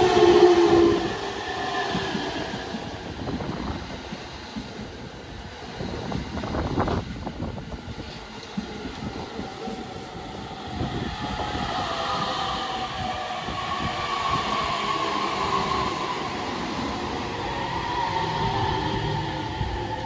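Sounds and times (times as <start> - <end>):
electric train rolling past: 0.0 - 20.0
resonant whining hum of wheels: 0.0 - 20.0.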